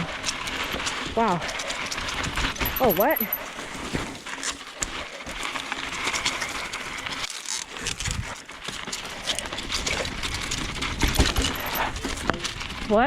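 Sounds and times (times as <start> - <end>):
bike rattling over bumps: 0.0 - 13.0.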